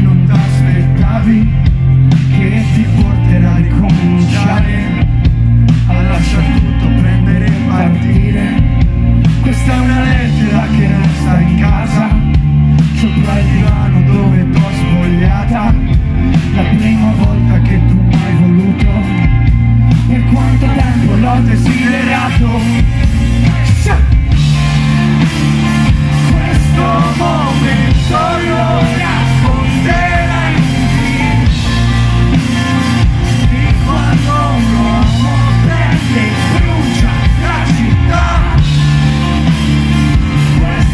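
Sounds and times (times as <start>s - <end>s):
lead vocalist singing: 0.0s - 40.9s
rock band playing: 0.0s - 40.9s.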